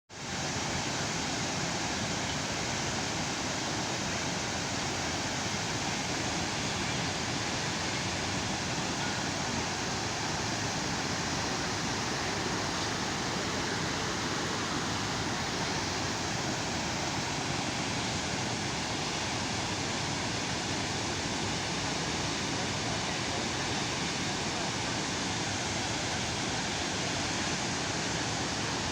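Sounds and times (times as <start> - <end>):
waterfall roaring: 0.2 - 28.9.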